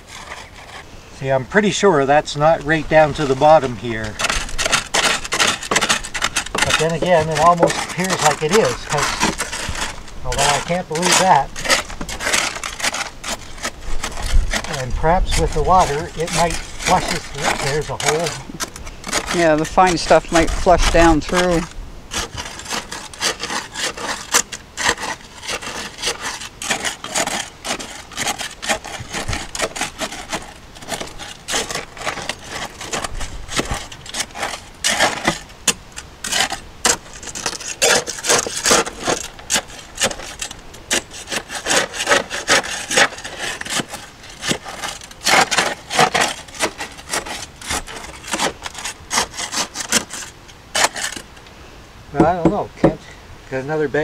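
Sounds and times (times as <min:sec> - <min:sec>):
steel bar scraping gravel: 0:00.0 - 0:51.5.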